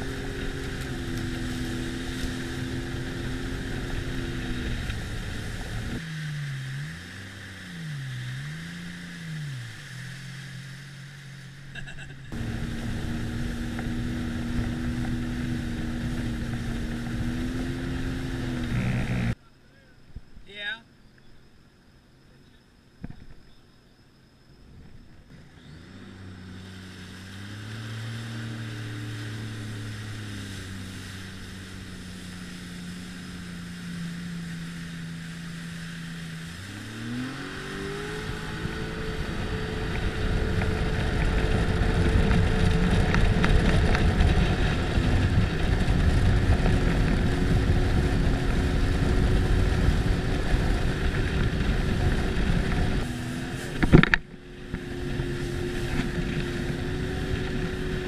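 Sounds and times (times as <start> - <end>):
hull rushing over water: 0.0 - 19.4, 24.7 - 58.0
personal watercraft engine: 0.0 - 58.0.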